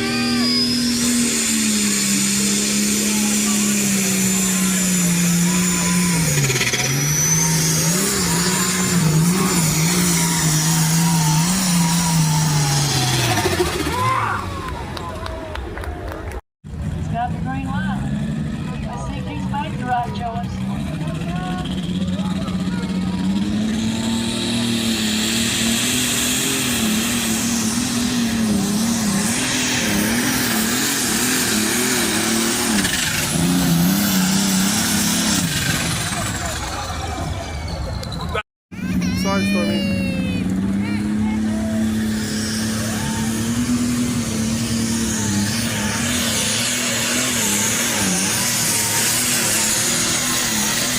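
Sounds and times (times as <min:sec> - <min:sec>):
pulling vehicle engine under load: 0:00.0 - 0:50.9.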